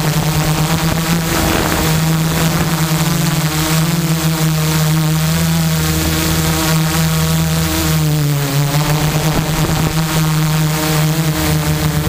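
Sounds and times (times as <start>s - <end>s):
drone motors and propellers buzzing: 0.0s - 12.0s.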